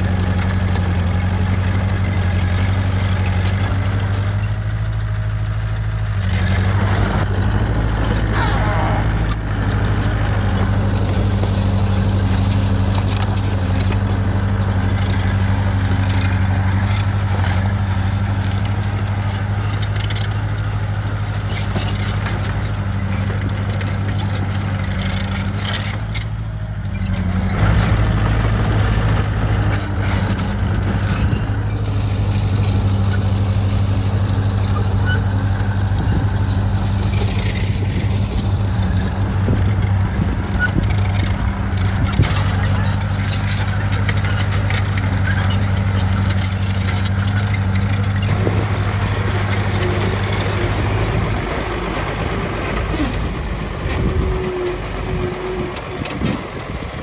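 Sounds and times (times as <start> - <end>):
bulldozer diesel engine: 0.0 - 57.0
metallic clinking and clanking: 7.9 - 53.9.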